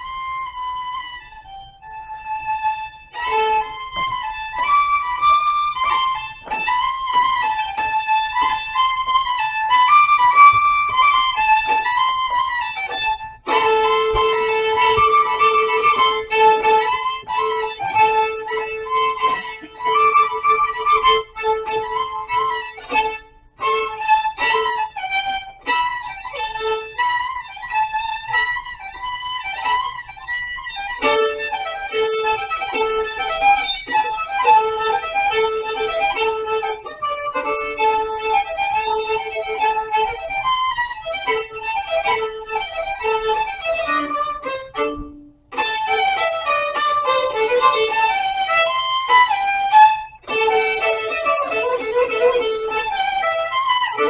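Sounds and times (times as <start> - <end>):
fast violin melody: 0.0 - 54.0.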